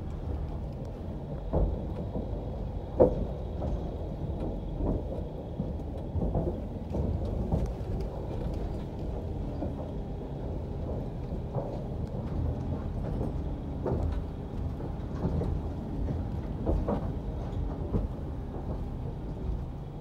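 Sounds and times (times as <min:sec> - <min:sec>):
tyres rumbling over wooden deck: 0:00.0 - 0:20.0.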